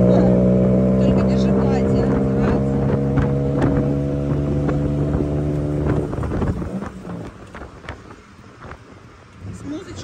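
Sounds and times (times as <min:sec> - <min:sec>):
road and wind noise: 0:00.0 - 0:10.0
engine running with rattling clicks: 0:01.0 - 0:10.0.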